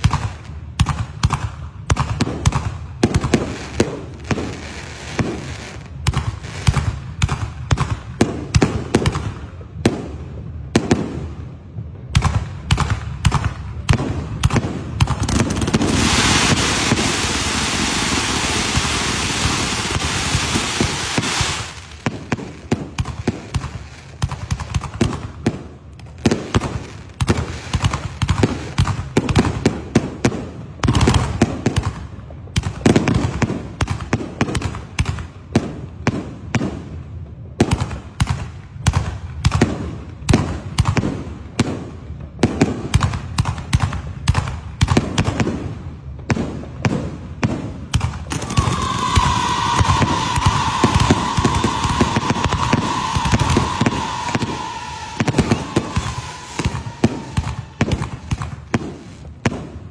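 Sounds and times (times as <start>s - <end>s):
firecrackers banging and crackling: 0.0s - 59.9s.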